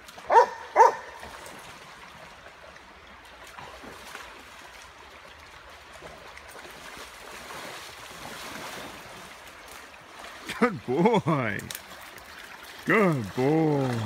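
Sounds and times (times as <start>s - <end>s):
dog swimming splashing water: 0.0s - 14.0s
stream rushing: 0.0s - 14.0s.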